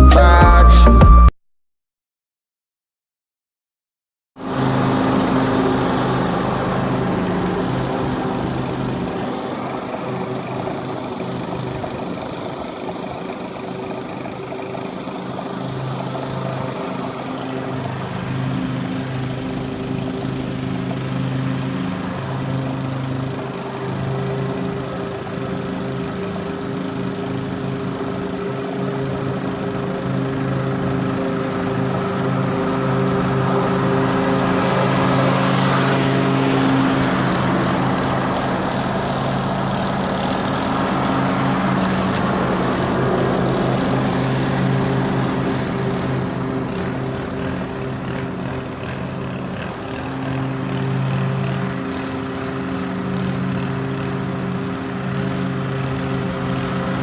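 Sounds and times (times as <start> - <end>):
lawn mower engine mowing: 4.4 - 57.0
string trimmer engine: 4.4 - 57.0.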